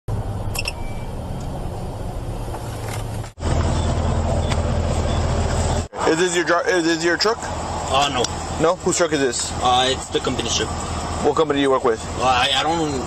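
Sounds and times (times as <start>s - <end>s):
vehicle engine rumbling: 0.1s - 13.0s.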